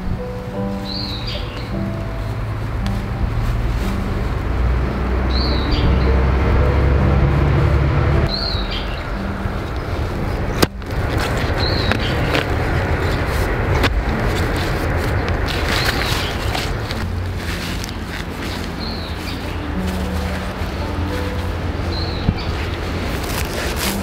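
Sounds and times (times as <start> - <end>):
heavy low drone: 0.0 - 24.0
bird chirping: 0.5 - 7.4, 8.2 - 24.0.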